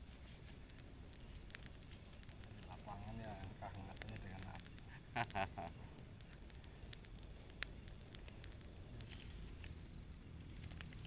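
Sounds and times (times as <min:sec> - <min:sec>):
campfire crackling and popping: 0:00.0 - 0:11.0
steady hiss: 0:00.0 - 0:11.0.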